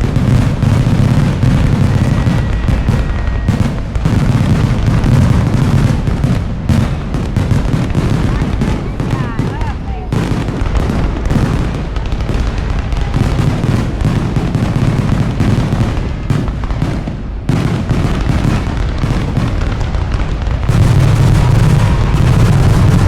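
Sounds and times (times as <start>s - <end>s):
fireworks booming: 0.0s - 23.0s
fireworks crackling: 0.0s - 23.0s.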